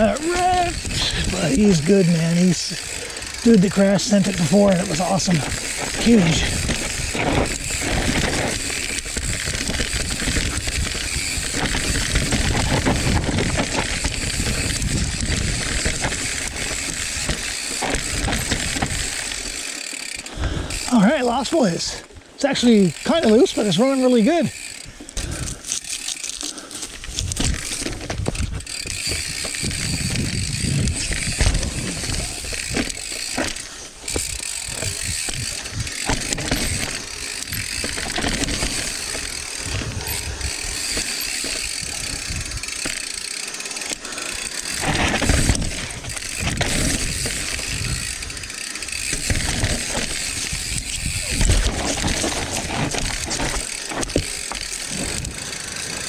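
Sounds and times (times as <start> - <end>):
bike chain and frame rattling: 0.0 - 56.0
bike tyres over dirt and roots: 0.0 - 56.0.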